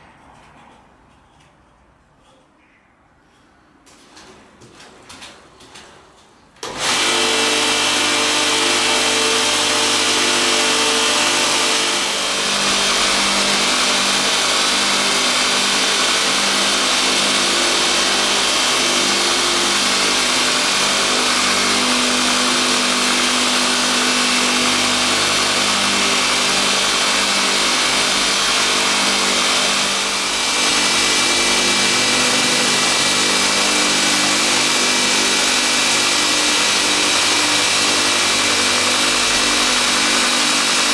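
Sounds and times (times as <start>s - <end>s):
belt grinder motor hum: 6.6s - 40.9s.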